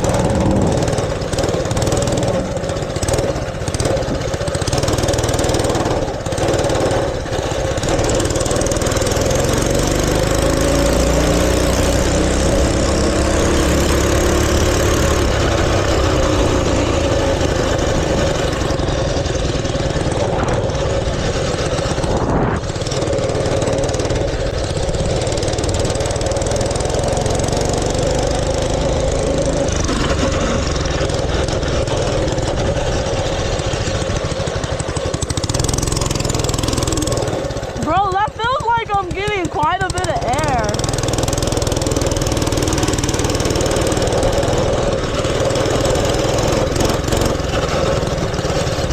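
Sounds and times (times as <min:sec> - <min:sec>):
small gasoline engine running: 0:00.0 - 0:48.9.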